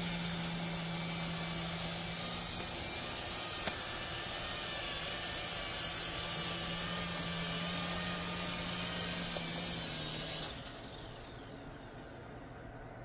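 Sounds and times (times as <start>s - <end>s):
toy helicopter motors whining: 0.0s - 12.2s.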